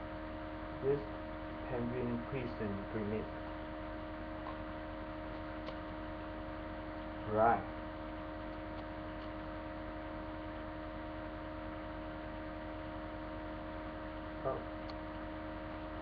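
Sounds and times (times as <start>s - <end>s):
electrical hum with hiss: 0.0s - 16.0s.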